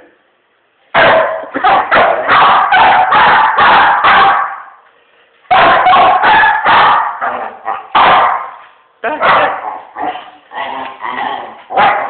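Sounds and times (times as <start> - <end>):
dog barking angrily: 0.9 - 4.8, 5.5 - 8.6, 9.2 - 12.0.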